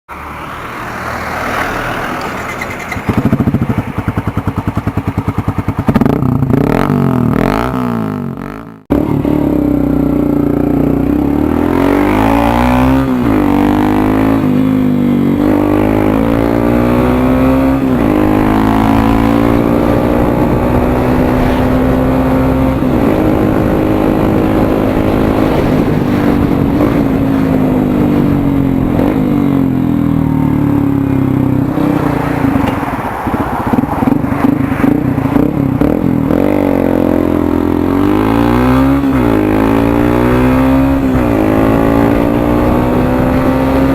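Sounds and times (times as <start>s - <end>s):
motorcycle engine revving: 1.3s - 43.9s.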